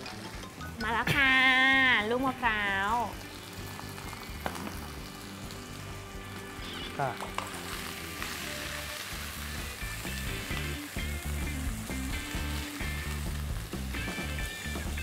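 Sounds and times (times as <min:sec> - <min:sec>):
fried rice sizzling in a pan: 0:01.8 - 0:15.0
spatula working in a pan: 0:02.9 - 0:15.0.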